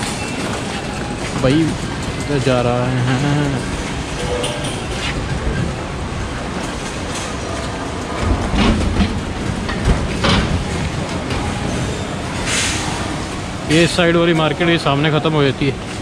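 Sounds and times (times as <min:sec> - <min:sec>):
metal carts clanking: 0:00.0 - 0:16.0.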